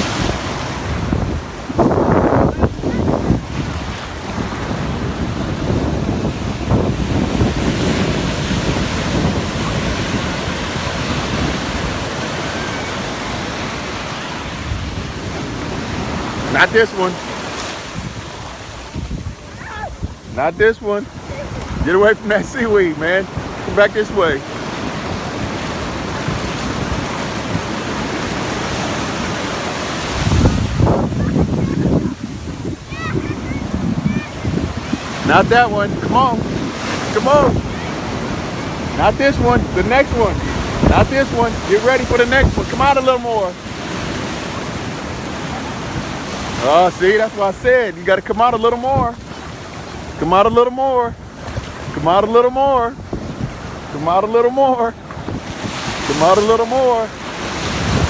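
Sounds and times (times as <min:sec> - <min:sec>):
wind buffeting microphone: 0:00.0 - 0:54.0, 0:55.0 - 0:56.4, 0:57.1 - 0:58.0
ocean surf washing onto beach: 0:00.0 - 0:58.0.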